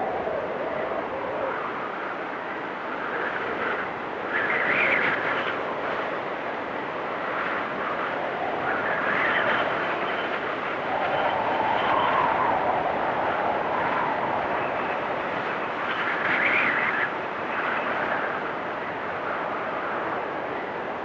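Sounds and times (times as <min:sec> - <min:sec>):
blizzard wind gusts: 0:00.0 - 0:21.0.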